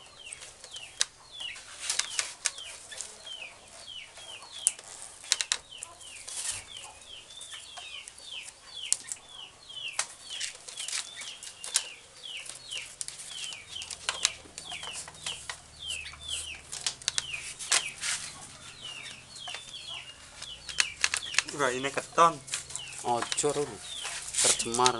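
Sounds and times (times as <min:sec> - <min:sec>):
rattan strip clicking and scraping: 0:00.0 - 0:09.2, 0:09.9 - 0:24.9
chicks peeping: 0:00.0 - 0:24.9.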